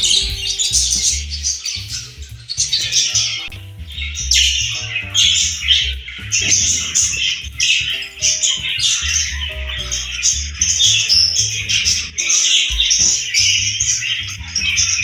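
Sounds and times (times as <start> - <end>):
background music with bass line: 0.0 - 15.0
budgerigar chattering and chirping: 0.0 - 15.0.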